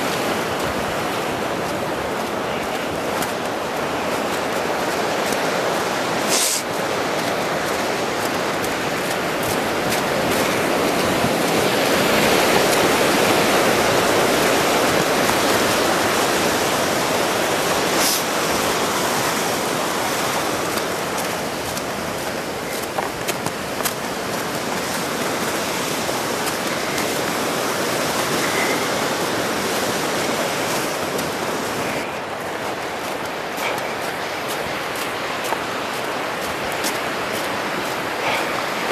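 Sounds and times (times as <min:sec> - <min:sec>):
water rushing down waterfall: 0:00.0 - 0:38.9.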